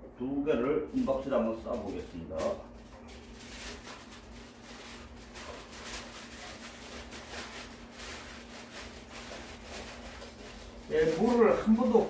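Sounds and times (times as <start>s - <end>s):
aluminium foil crinkling: 0.9s - 12.0s.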